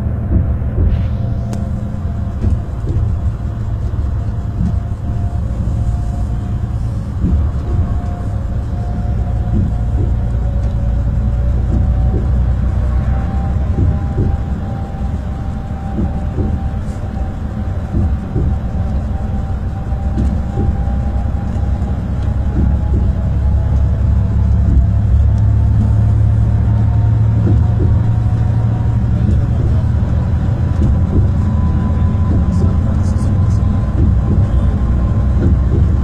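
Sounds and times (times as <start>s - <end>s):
bus engine and road rumble: 0.0s - 36.0s
faint whine: 0.0s - 36.0s.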